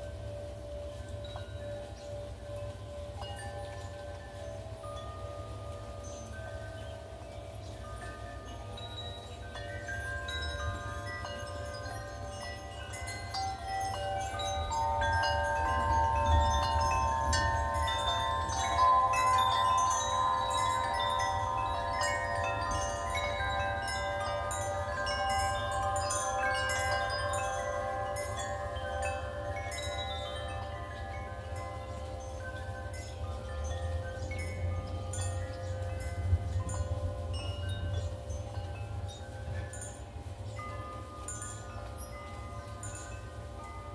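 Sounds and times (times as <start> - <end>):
metal wind chimes ringing: 0.0 - 43.9.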